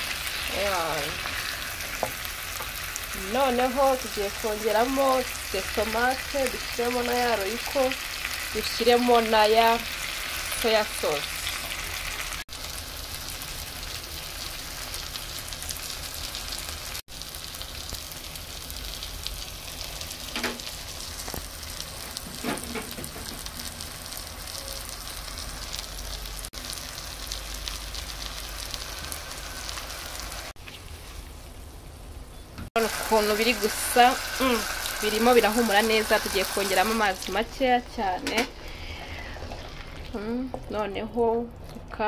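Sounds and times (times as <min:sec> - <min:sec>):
vegetables sizzling in a pan: 0:00.0 - 0:40.6.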